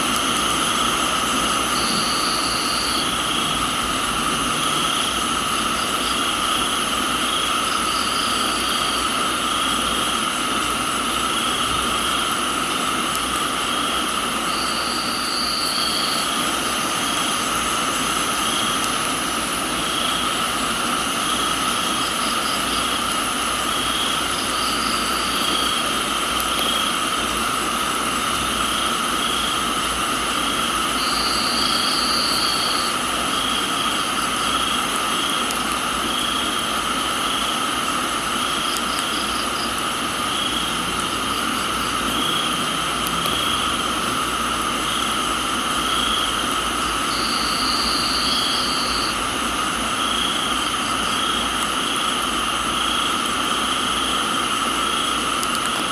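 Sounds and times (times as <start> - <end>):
crickets and insects chorus: 0.0 - 55.9
high insect trill: 0.0 - 55.9
pulsing insect call: 0.0 - 55.9
steady rain hiss: 0.0 - 55.9.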